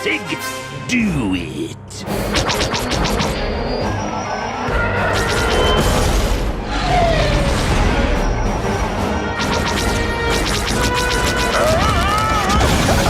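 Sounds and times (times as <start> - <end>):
soundtrack music: 0.0 - 13.0.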